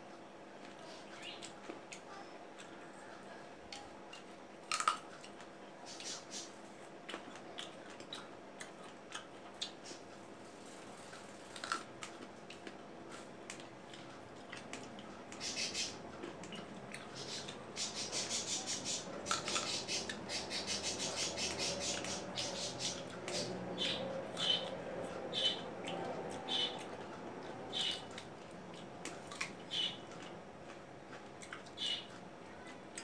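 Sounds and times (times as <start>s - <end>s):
crunchy fruit chewing: 0.6s - 33.0s.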